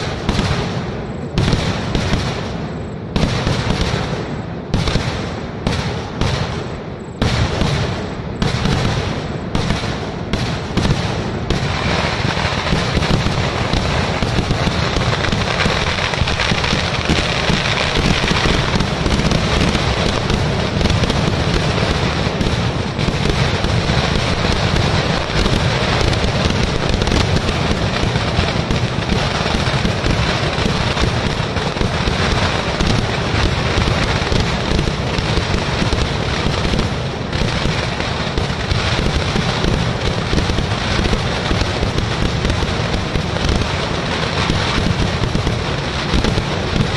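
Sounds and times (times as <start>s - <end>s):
fireworks exploding: 0.0s - 46.9s.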